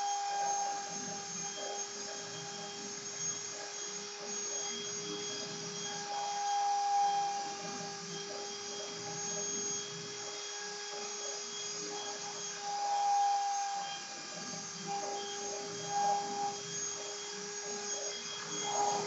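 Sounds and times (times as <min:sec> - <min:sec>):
cnc router whine: 0:00.0 - 0:19.0.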